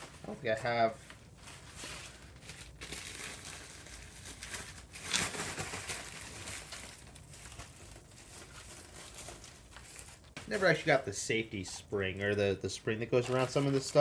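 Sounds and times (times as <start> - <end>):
rustling crinkling handling noise: 0.0 - 14.0.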